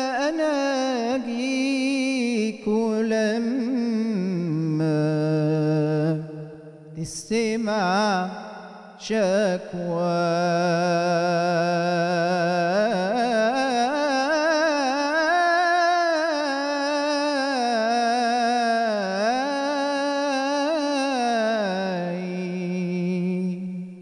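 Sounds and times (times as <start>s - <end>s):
man singing melisma: 0.0s - 24.0s.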